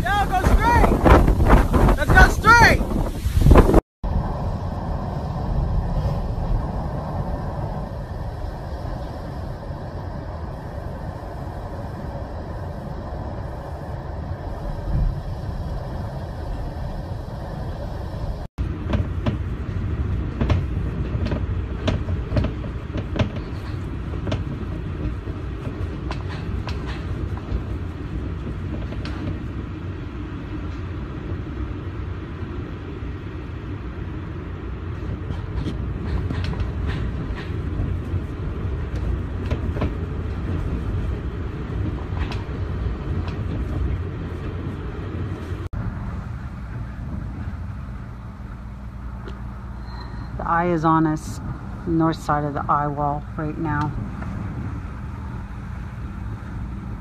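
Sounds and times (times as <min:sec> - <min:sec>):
strong wind: 0:00.0 - 0:57.0.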